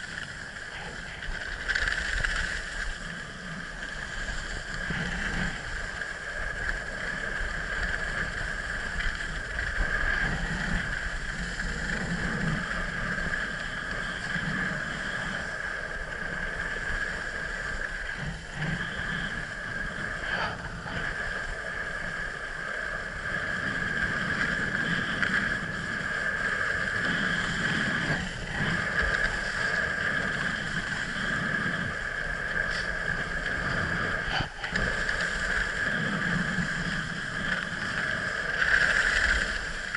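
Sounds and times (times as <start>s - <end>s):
skis sliding on packed snow: 0.0s - 39.9s
wind rushing over camera: 0.0s - 39.9s.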